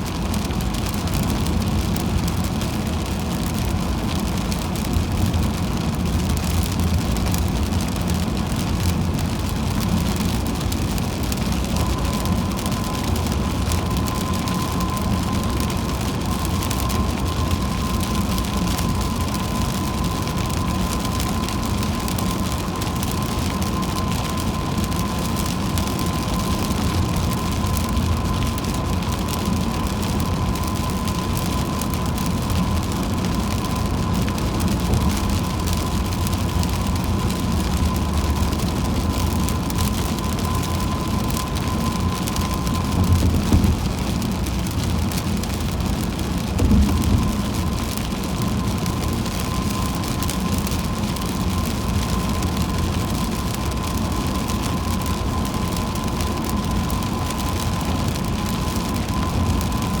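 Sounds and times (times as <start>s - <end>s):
car road noise rumble: 0.0s - 60.0s
rain on car: 0.0s - 60.0s
thin steady whine: 0.0s - 60.0s.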